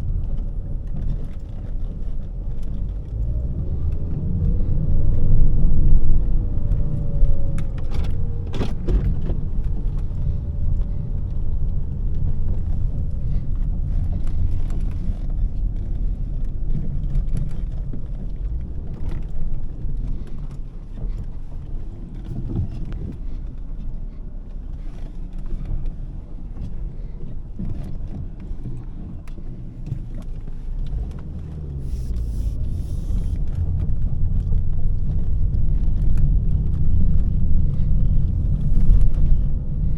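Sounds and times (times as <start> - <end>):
car engine rumble: 0.0 - 39.9
tyre and road noise: 0.0 - 39.9.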